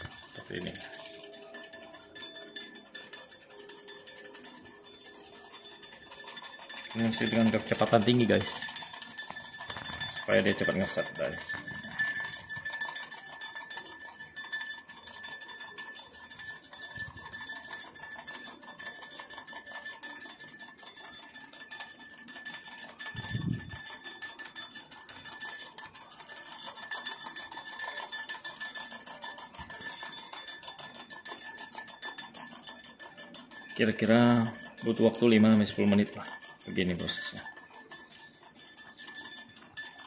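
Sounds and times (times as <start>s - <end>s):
fork clinking against glass: 0.0s - 40.0s.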